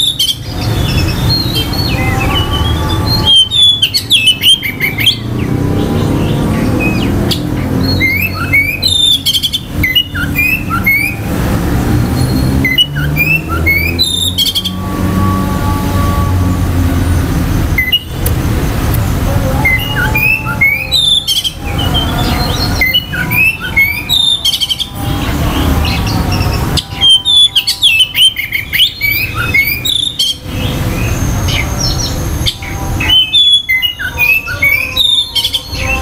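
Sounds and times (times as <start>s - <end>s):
bird singing whistled notes: 0.0s - 11.2s, 12.1s - 15.3s, 17.7s - 18.2s, 19.6s - 36.0s.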